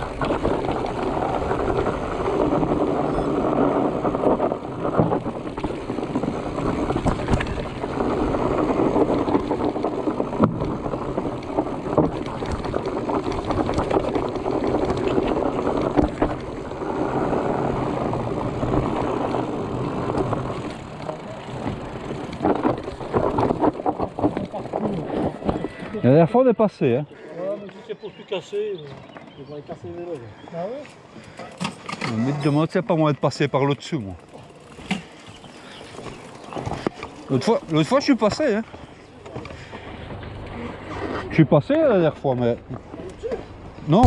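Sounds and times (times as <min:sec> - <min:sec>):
bike knocking and rattling: 0:00.0 - 0:26.3, 0:30.9 - 0:44.0
bike tyres rumbling on dirt: 0:00.0 - 0:27.5, 0:31.2 - 0:44.0.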